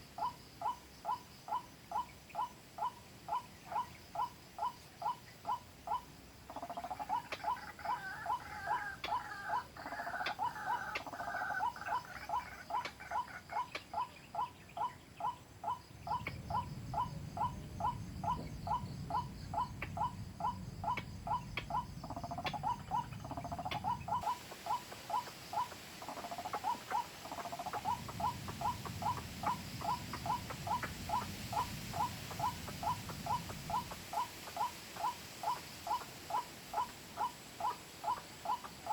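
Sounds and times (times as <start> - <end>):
higher bird calls: 0.2 - 38.9.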